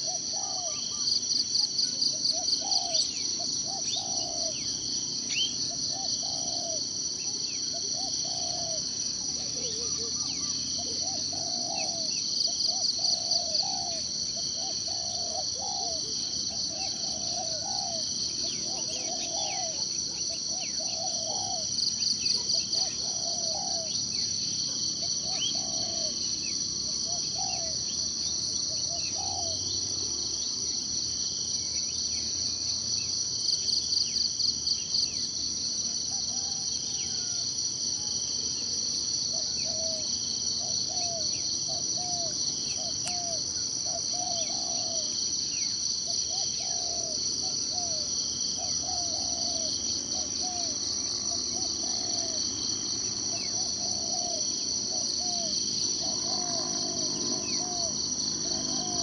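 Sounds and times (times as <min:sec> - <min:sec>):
insect high trill: 0:00.0 - 0:59.0.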